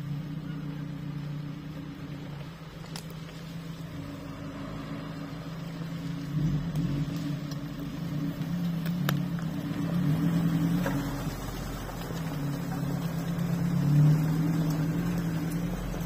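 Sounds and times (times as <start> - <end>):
off-road vehicle engine pulling: 0.0 - 16.0.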